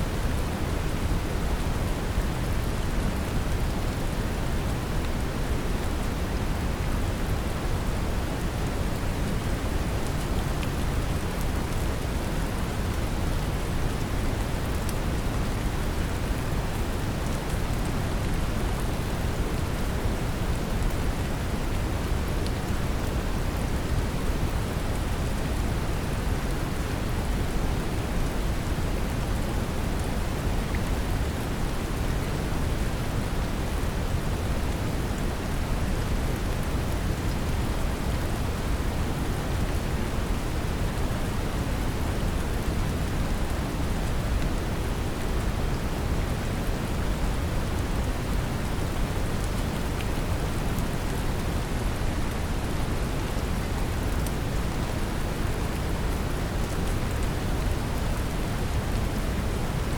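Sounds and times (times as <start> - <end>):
rain on a surface: 0.0 - 59.9.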